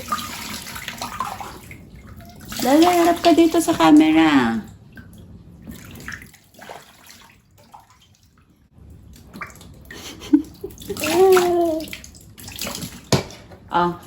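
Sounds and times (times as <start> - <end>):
water splashing in bathtub: 0.0 - 13.9.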